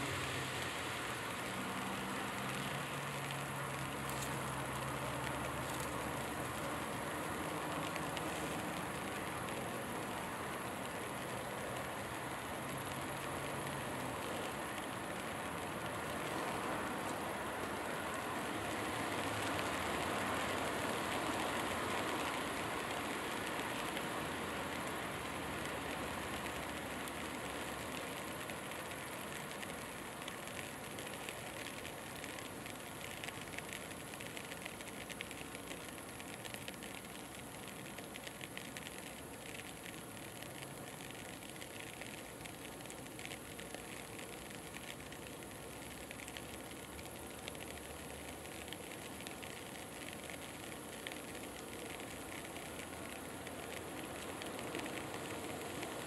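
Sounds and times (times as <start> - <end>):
outdoor background hiss and rumble: 0.0 - 56.0.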